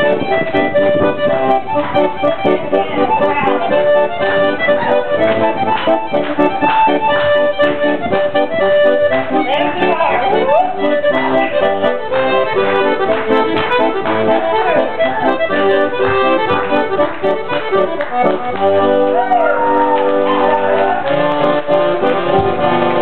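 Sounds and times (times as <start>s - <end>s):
accordion dance tune: 0.0s - 23.0s.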